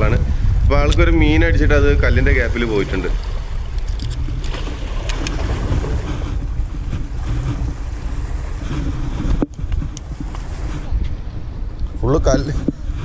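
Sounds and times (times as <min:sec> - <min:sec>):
sea waves against rocks: 0:00.0 - 0:13.0
wind buffeting microphone: 0:00.0 - 0:13.0.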